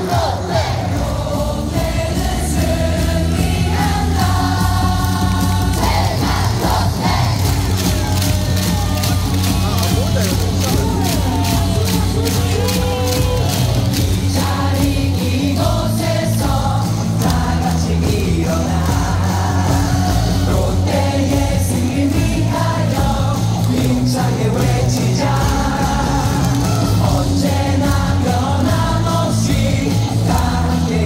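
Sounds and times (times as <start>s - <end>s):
crowd singing in unison: 0.0s - 31.0s
loud amplified music: 0.0s - 31.0s.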